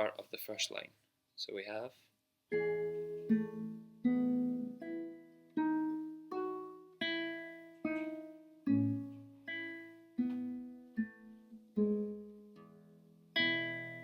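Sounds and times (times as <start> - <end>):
classical guitar fingerpicking: 2.5 - 14.0.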